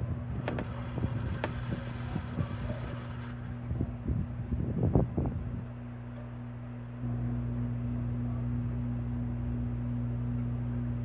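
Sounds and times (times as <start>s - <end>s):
hot air station humming: 0.0s - 11.0s.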